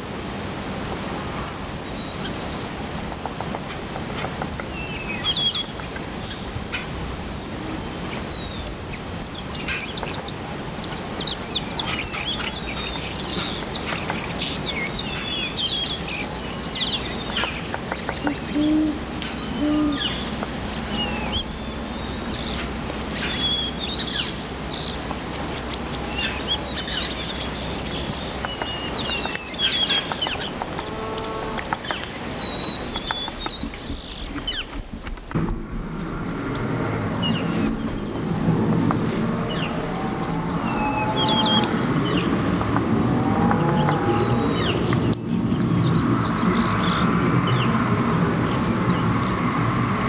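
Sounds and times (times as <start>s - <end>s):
small birds chirping: 1.8s - 50.0s.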